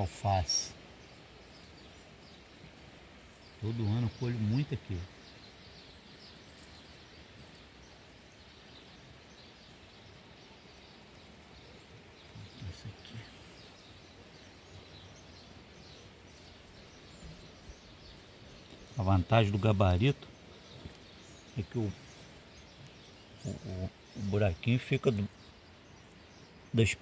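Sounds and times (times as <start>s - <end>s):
faint bird chirps: 0.0s - 27.0s
faint outdoor background noise: 0.0s - 27.0s.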